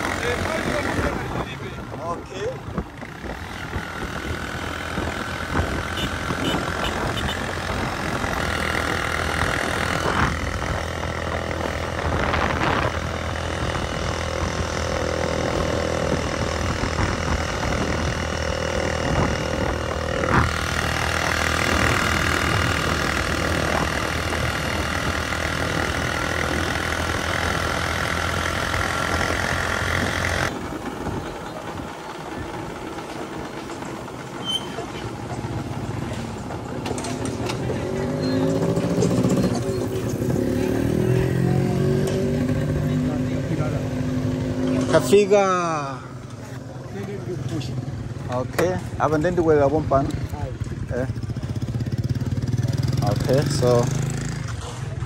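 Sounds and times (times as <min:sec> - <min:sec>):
motorcycle engine running: 0:00.0 - 0:55.0
road noise rushing: 0:00.0 - 0:55.0.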